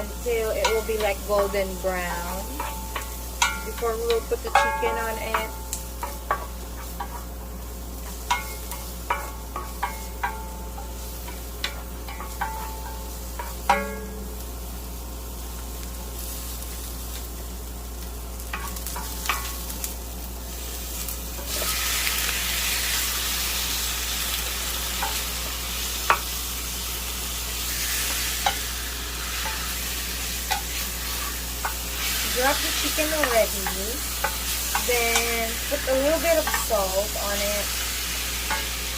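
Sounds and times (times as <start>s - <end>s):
onion and garlic sizzling in oil: 0.0s - 38.9s.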